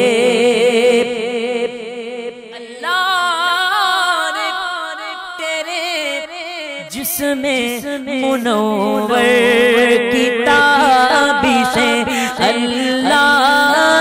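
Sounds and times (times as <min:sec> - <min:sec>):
man singing: 0:00.0 - 0:14.0
sustained vocal drone: 0:00.0 - 0:14.0.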